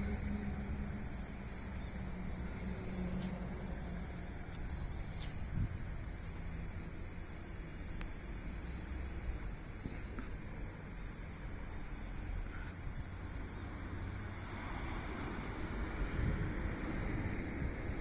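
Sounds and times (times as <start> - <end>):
cicada buzzing: 0.0 - 18.0
high-pitched insect chorus: 0.0 - 18.0.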